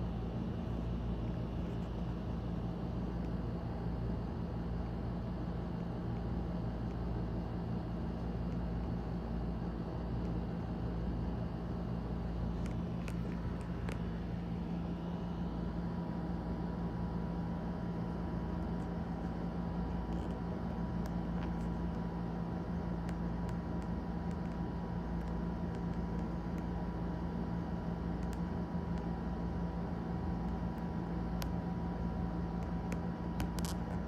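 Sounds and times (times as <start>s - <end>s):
faint constant whine: 0.0s - 34.0s
low mechanical hum: 0.0s - 34.0s.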